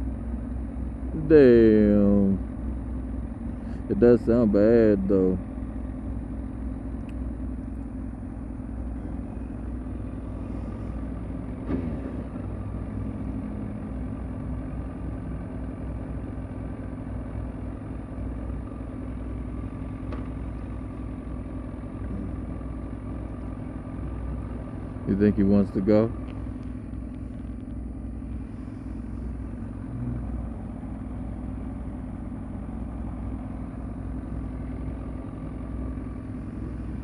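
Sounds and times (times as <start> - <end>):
car engine idling: 0.0 - 37.0
motorcycle engine idling: 0.0 - 37.0.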